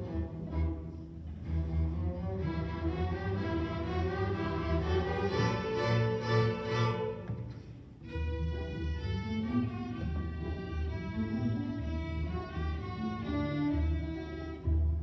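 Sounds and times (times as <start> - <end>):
string orchestra playing bluesy piece: 0.0 - 15.0.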